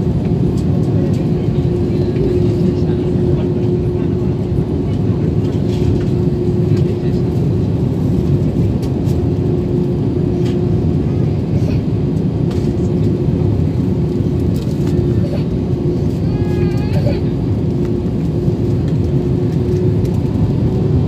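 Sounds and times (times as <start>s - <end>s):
jet engines and airflow rumble: 0.0s - 21.0s.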